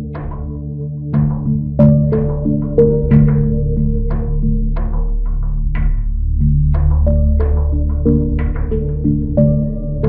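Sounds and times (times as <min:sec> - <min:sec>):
steady low bass: 0:00.0 - 0:10.0.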